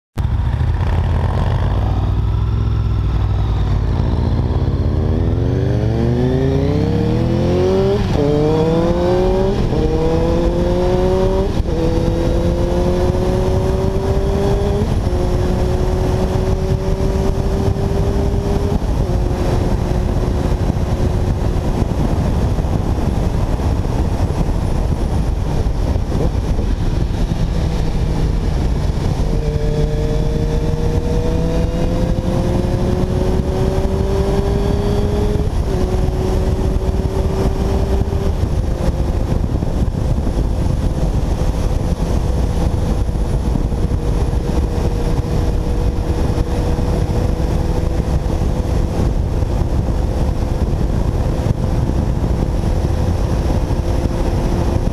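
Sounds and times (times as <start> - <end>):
motorcycle engine accelerating: 0.2 - 54.9
wind rumble on microphone: 0.2 - 54.9.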